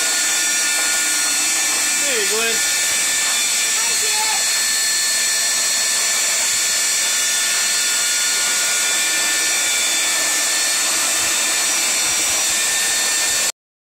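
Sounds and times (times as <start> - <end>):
shop vacuum running: 0.0 - 13.6.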